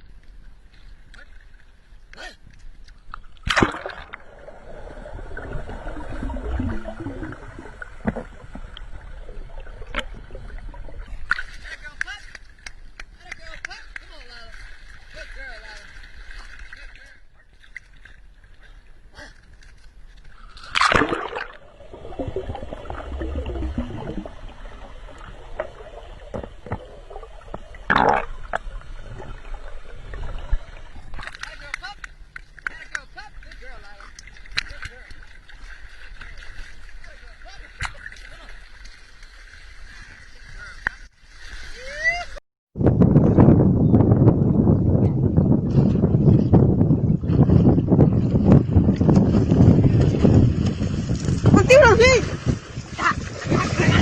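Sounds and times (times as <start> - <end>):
water around small boat: 0.0 - 54.0.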